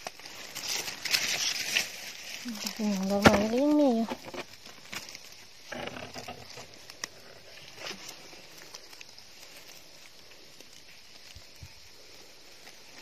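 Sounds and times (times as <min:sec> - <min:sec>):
twigs snapping: 0:00.0 - 0:11.6
dry leaves rustling: 0:00.0 - 0:13.0.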